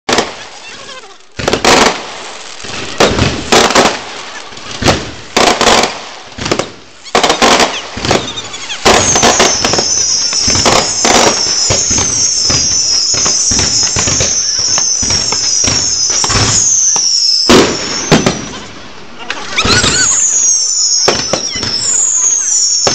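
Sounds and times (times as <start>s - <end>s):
fireworks crackling: 0.1s - 22.9s
shrill fireworks whistles: 0.1s - 22.9s
firecracker bangs: 1.4s - 18.7s, 19.6s - 22.9s.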